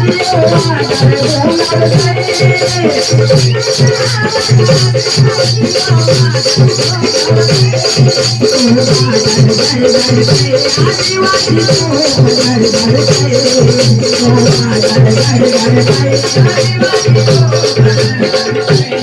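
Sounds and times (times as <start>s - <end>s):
drum beat: 0.0s - 19.0s.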